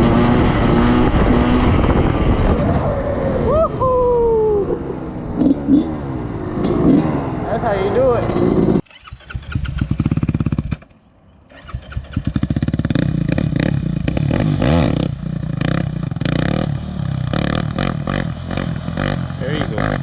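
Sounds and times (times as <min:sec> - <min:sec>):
quad bike engine revving: 0:00.0 - 0:03.6, 0:04.5 - 0:10.9, 0:11.5 - 0:20.0.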